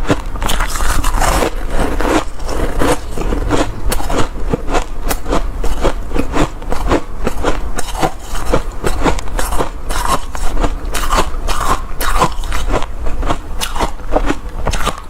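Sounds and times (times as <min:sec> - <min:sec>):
chewing hard ice crunching: 0:00.0 - 0:15.0.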